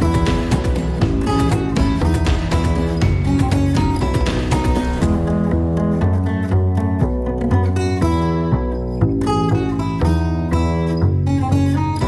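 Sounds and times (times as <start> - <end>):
guitar music over a beat: 0.0 - 12.0.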